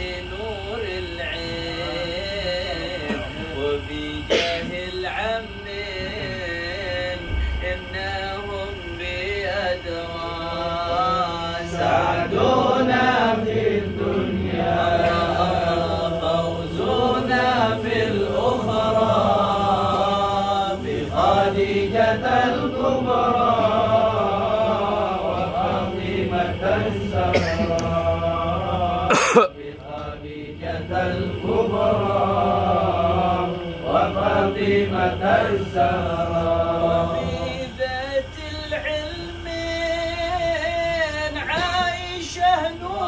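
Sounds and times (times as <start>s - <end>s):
men chanting together: 0.0s - 43.0s.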